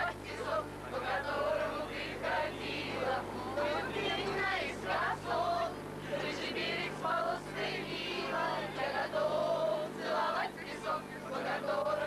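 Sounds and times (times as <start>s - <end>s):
steady low hum: 0.0s - 12.0s
teenagers singing in chorus: 0.0s - 12.0s.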